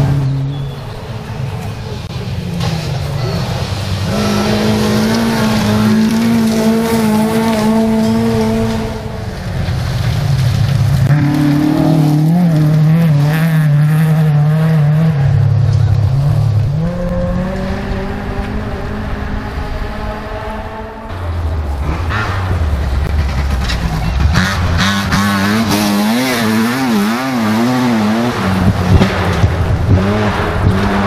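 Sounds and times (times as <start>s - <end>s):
rally car engine at high revs: 1.6s - 31.0s
rally car engine revving hard: 2.6s - 9.4s, 11.0s - 31.0s.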